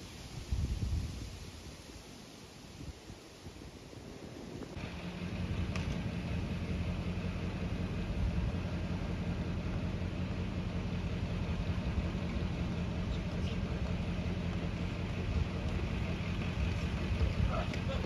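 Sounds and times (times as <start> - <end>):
low engine rumble: 2.9 - 18.0.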